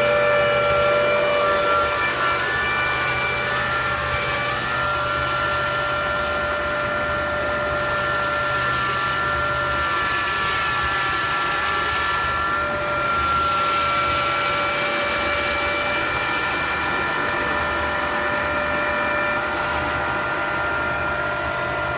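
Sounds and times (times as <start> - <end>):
wire saw machine whine: 0.0 - 21.9.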